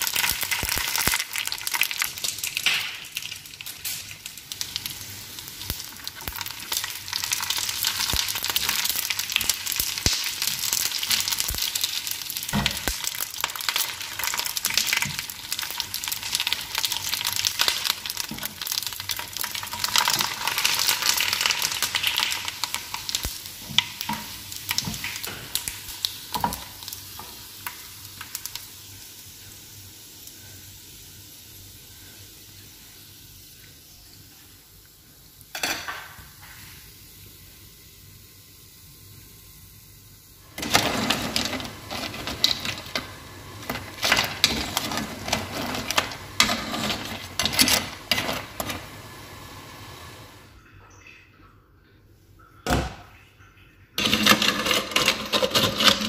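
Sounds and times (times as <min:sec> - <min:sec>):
oil sizzling in frying pan: 0:00.0 - 0:50.5.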